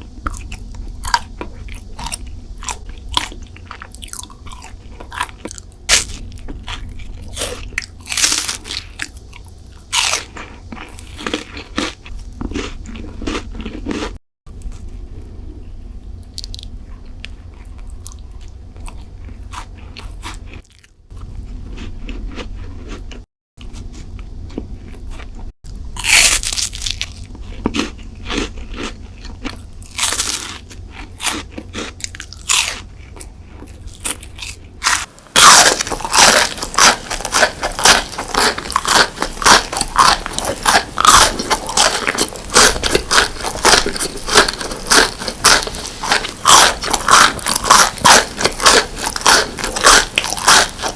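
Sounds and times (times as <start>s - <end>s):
biting and chewing crunchy food: 0.0s - 50.9s.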